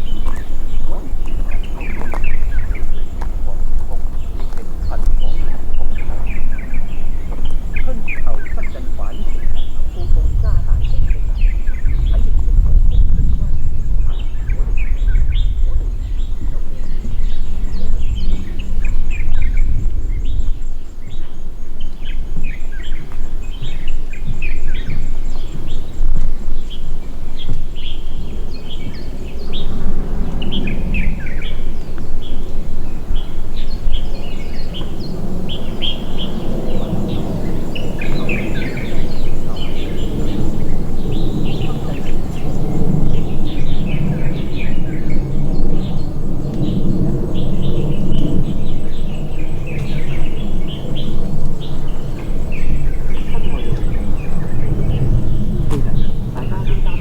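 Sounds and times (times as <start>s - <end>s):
low background rumble: 0.0s - 57.0s
small birds chirping: 0.0s - 57.0s.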